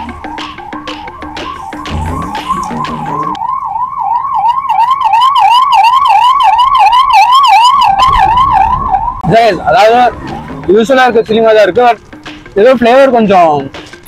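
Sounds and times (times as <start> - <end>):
emergency siren yelping: 0.0 - 12.1.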